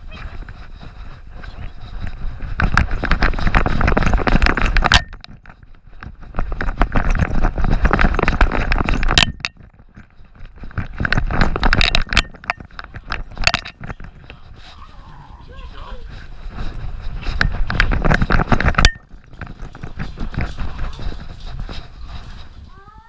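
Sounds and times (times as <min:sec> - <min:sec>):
camera rig rattling and jangling: 0:00.0 - 0:23.0.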